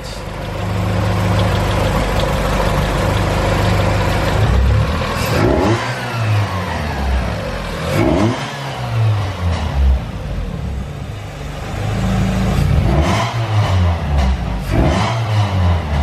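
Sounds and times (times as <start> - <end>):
car engine running and revving: 0.0 - 16.0.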